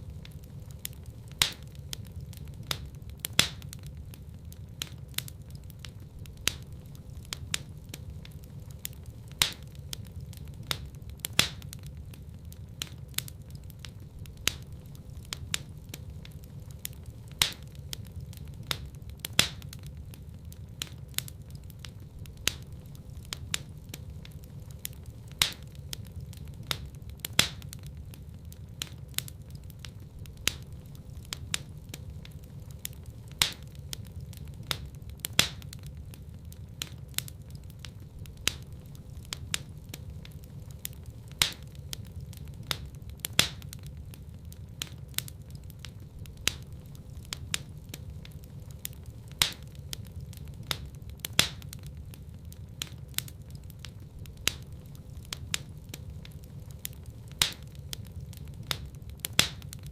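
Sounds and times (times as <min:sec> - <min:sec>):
low rumble of flames: 0:00.0 - 0:59.9
wood fire crackling: 0:00.0 - 0:59.9
sharp pops and snaps: 0:00.1 - 0:59.9.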